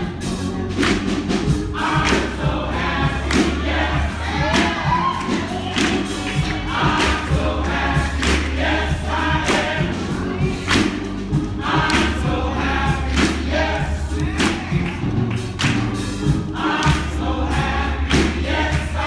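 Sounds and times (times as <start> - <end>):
congregation singing: 0.0 - 19.0
low bass accompaniment: 0.0 - 19.0
sharp percussive strikes: 0.8 - 19.0.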